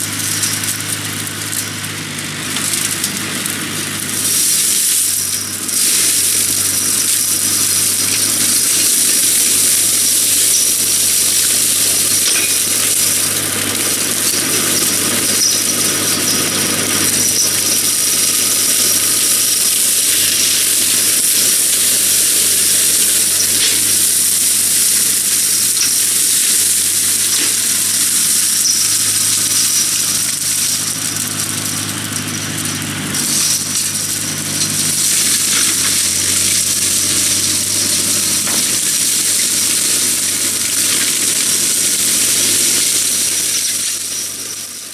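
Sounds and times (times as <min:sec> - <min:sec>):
flail mulcher shredding reeds: 0:00.0 - 0:44.9
tractor engine running: 0:00.0 - 0:44.9.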